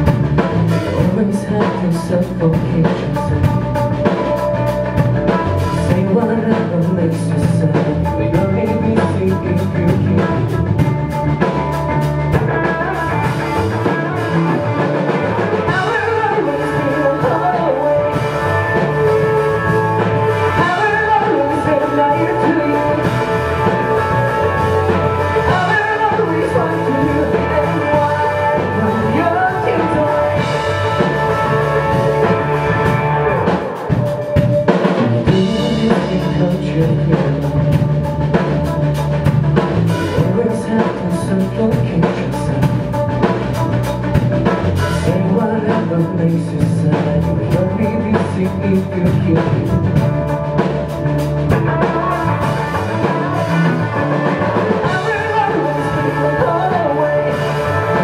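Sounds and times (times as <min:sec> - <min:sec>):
male lead vocal: 0:00.0 - 0:04.4, 0:05.5 - 0:10.8, 0:13.8 - 0:37.9, 0:40.0 - 0:42.8, 0:44.8 - 0:50.1, 0:53.0 - 0:58.0
live rock band playing: 0:00.0 - 0:58.0.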